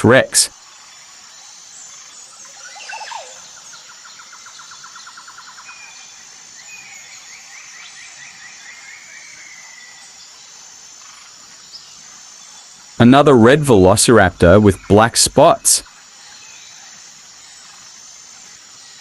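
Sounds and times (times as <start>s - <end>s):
high insect buzz: 0.2s - 14.9s, 15.5s - 19.0s
birds singing trills: 0.5s - 13.1s, 13.8s - 19.0s.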